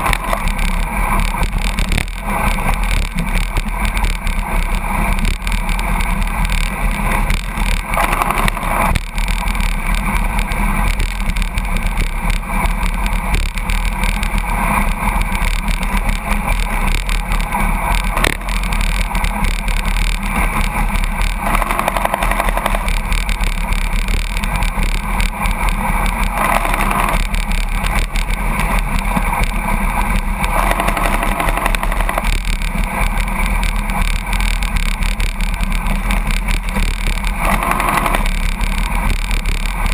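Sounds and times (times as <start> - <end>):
truck running: 0.0 - 39.9
wind and road noise: 0.0 - 39.9.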